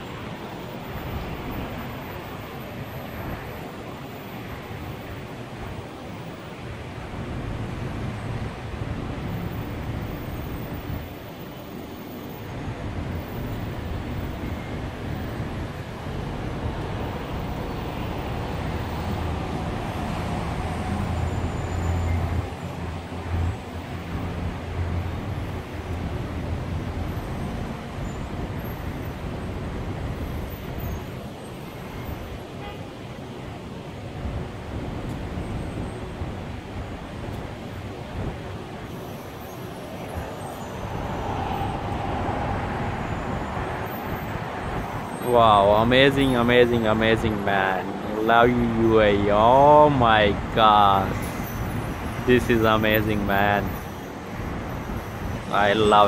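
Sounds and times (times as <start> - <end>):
low rumble of road traffic: 0.0 - 56.0.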